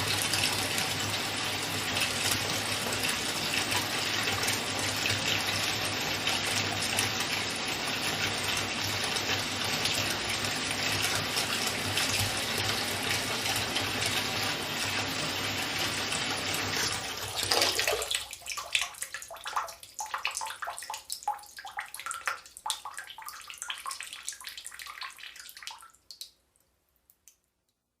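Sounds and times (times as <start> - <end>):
tap water running into bathtub: 0.0 - 26.4
water drips and splashes: 0.0 - 27.5.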